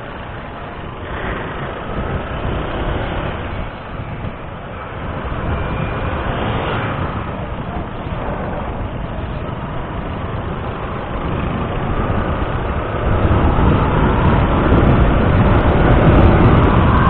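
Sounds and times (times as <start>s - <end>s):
motorcycle engine and road rumble: 0.0s - 17.0s
wind rushing over microphone: 0.0s - 17.0s.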